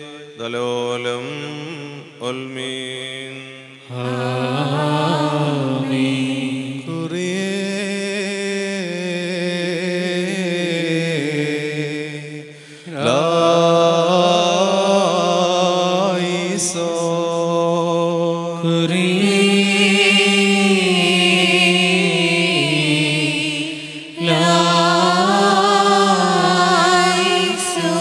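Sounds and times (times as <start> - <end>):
liturgical chant singing: 0.0 - 28.0.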